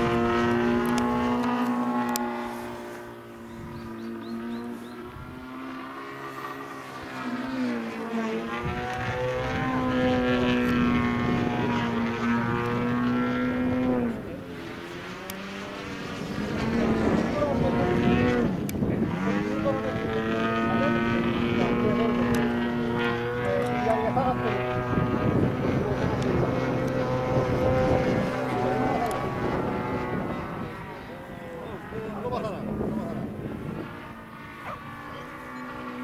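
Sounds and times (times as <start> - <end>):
model airplane motor buzzing: 0.0 - 36.0.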